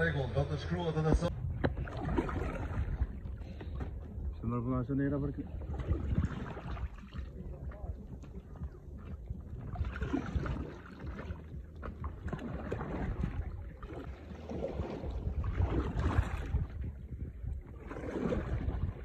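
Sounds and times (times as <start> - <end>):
wind rumbling on microphone: 0.0 - 19.0
paddle splashing through water: 1.5 - 4.2, 5.4 - 19.0.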